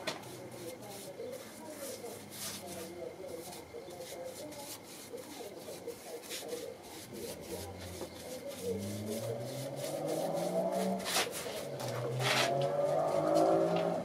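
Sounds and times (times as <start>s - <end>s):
paintbrush scrubbing wood: 0.0s - 14.0s.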